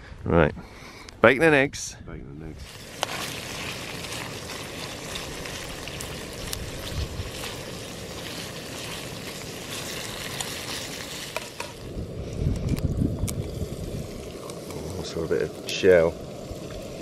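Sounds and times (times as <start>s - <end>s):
bacon sizzling in a frying pan: 2.6s - 17.0s.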